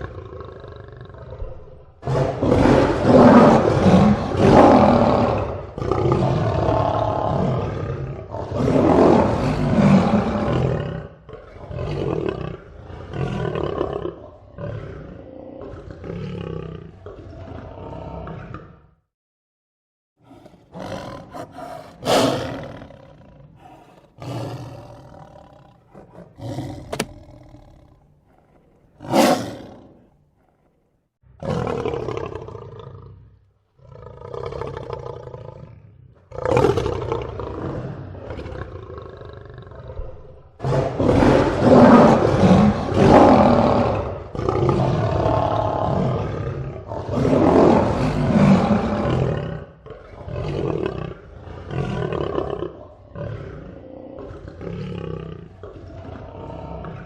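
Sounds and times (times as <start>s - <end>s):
lion roaring and growling: 0.0s - 19.0s, 20.2s - 57.0s.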